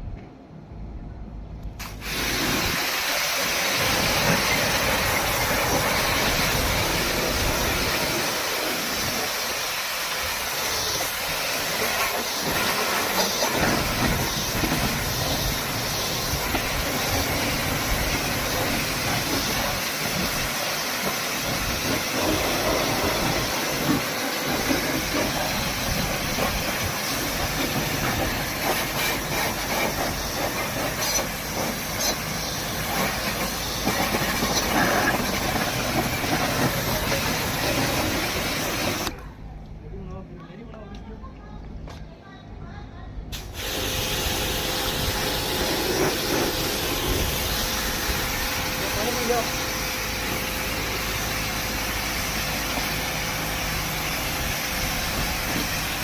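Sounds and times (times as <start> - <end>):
loud steady hiss: 1.7 - 39.2, 43.3 - 56.0.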